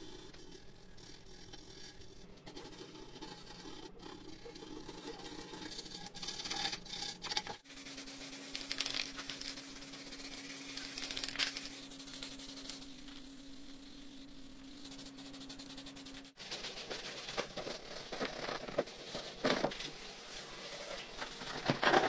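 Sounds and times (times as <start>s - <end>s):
scratchy scrubbing of metal wheel: 0.0s - 22.0s
steady low hum: 0.0s - 22.0s.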